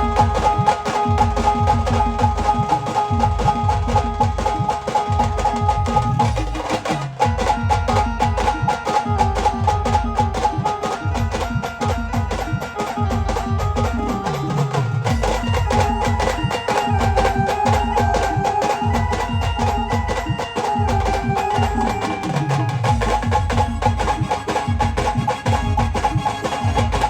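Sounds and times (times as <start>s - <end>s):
fast dense percussion: 0.0s - 27.0s
held melody line: 0.0s - 27.0s.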